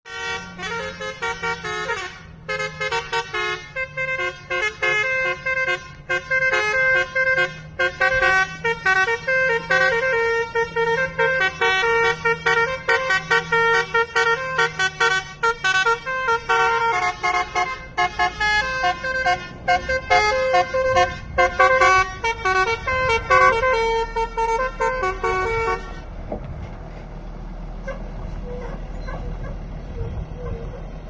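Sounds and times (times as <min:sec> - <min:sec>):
multi-tone bus horn tune: 0:00.0 - 0:26.2.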